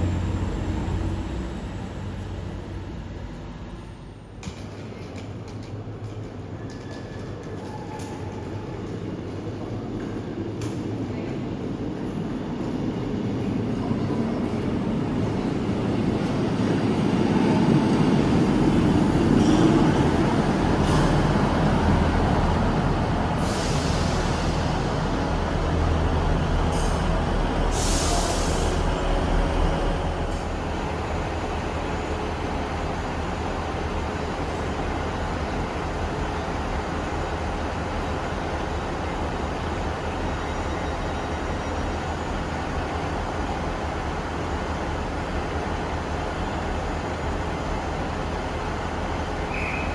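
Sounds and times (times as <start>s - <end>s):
train rumbling on rails: 0.0s - 49.9s.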